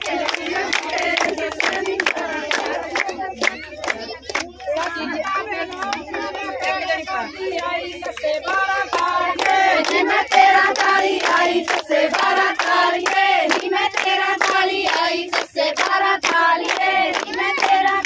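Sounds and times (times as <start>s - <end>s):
rhythmic hand clapping: 0.0s - 18.0s
women singing together: 0.0s - 18.0s.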